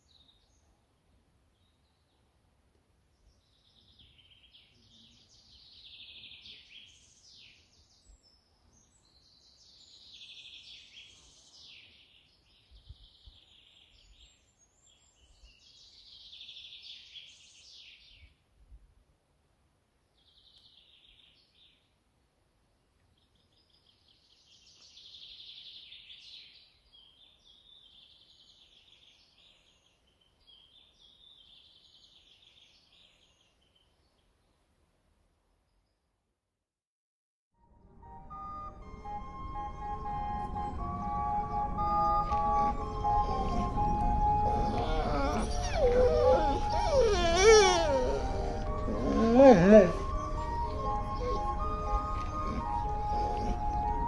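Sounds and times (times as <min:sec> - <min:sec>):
faint bird chirping and song: 0:00.0 - 0:02.4, 0:03.1 - 0:18.4, 0:20.1 - 0:22.0, 0:23.0 - 0:34.7, 0:39.5 - 0:54.0.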